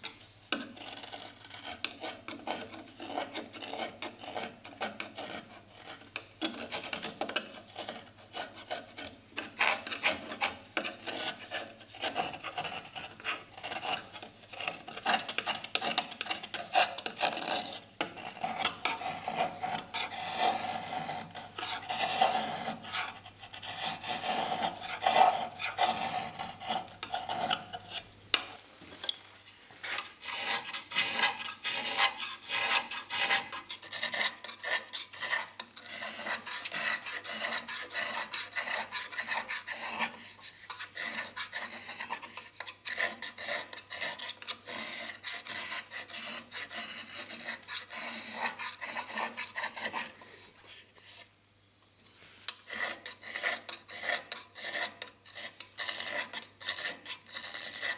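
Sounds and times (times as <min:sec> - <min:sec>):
knife scraping wood: 0:00.0 - 0:51.3, 0:52.1 - 0:57.9.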